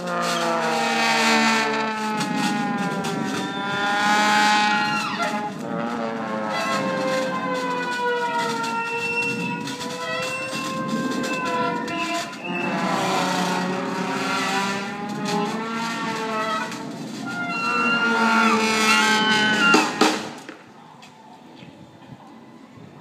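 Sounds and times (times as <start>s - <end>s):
brass horns sliding notes: 0.0s - 20.4s
steady drum beats: 0.0s - 20.6s.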